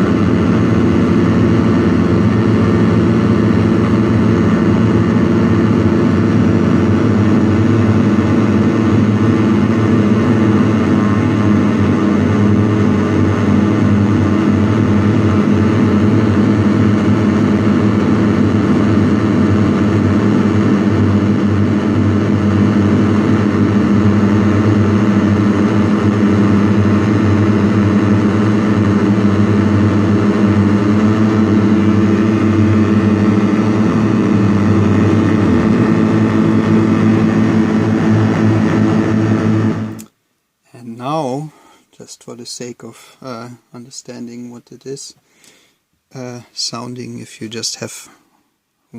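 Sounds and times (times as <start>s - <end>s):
synthesizer drone: 0.0s - 40.2s.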